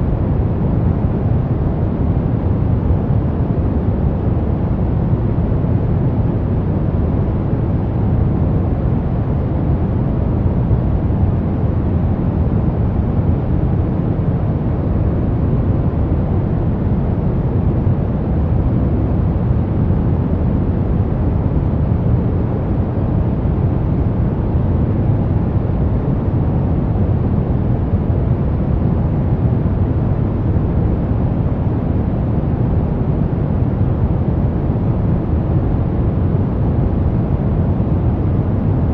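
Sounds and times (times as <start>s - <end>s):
deep rumbling brown noise: 0.0s - 38.9s.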